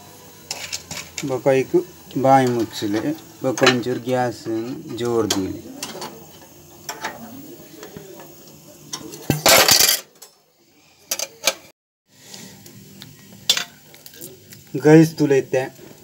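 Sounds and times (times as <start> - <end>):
popcorn popping in a pot: 0.1 - 10.1, 12.2 - 16.0.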